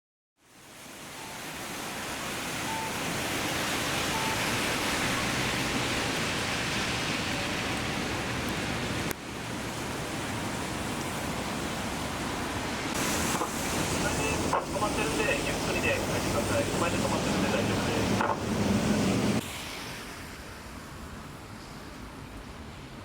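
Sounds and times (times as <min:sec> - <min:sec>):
heavy rain hissing: 0:00.5 - 0:22.0.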